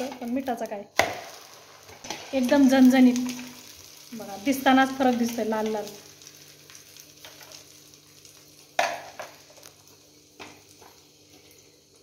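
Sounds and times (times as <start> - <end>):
omelette sizzling on a pan: 0.0 - 12.0.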